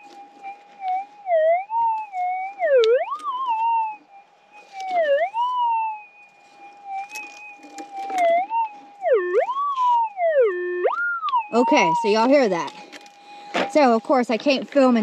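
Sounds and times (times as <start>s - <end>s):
metal detector wobbling tone: 0.0s - 15.0s.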